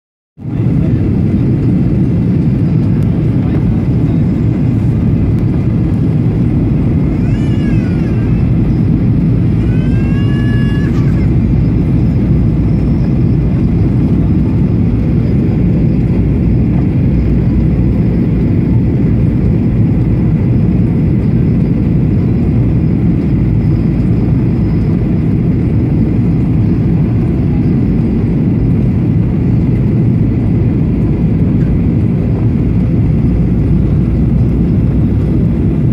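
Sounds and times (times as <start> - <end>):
airliner cabin engine roar: 0.4 - 35.9.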